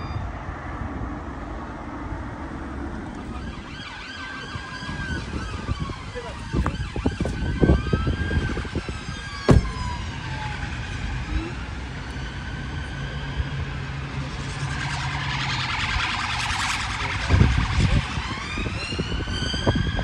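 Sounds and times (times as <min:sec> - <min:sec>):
traffic noise: 0:00.0 - 0:20.0
police siren wailing: 0:02.4 - 0:20.0.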